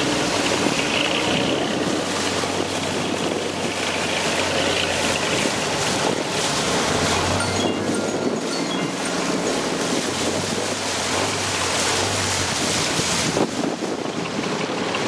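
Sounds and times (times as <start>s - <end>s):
boat engine humming: 0.0s - 15.0s
water rushing: 0.0s - 15.0s
wind noise: 0.4s - 4.2s, 5.2s - 15.0s.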